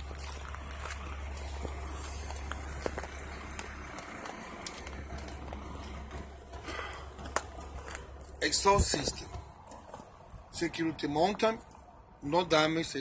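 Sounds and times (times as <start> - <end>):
diesel engine idling: 0.0 - 12.2
outdoor noise: 0.0 - 13.0.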